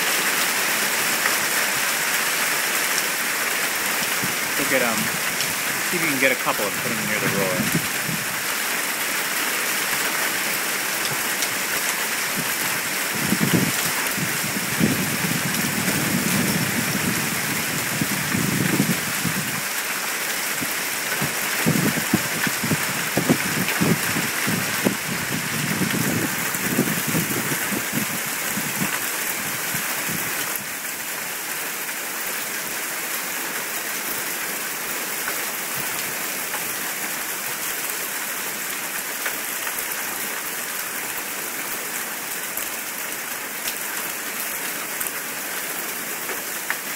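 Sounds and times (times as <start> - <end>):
hail falling: 0.0 - 46.9.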